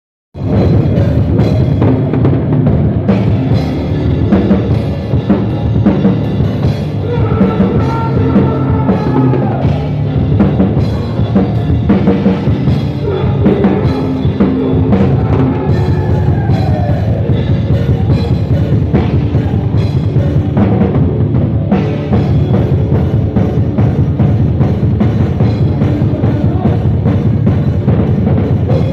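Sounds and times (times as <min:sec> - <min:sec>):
drum kit playing: 0:00.4 - 0:28.9
heavy metal music: 0:00.4 - 0:28.9.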